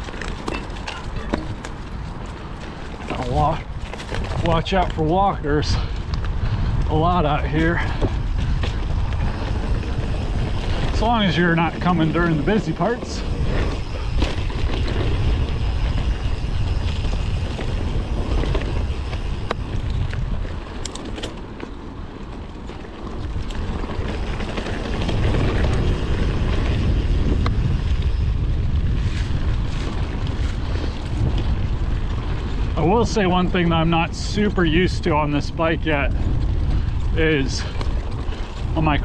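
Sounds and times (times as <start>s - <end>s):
wind on microphone: 0.0s - 21.4s, 22.9s - 39.0s
bike clicks: 0.0s - 35.3s, 35.9s - 39.0s
bike tyre noise on trail: 0.0s - 39.0s.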